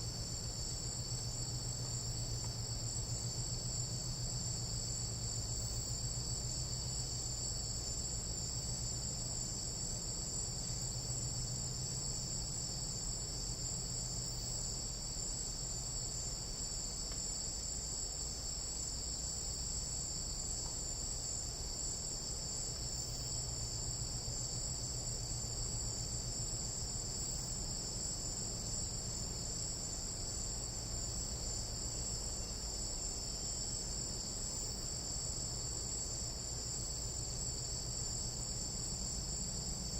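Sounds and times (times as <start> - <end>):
insects trilling: 0.0 - 39.9
low steady hum: 0.0 - 39.9.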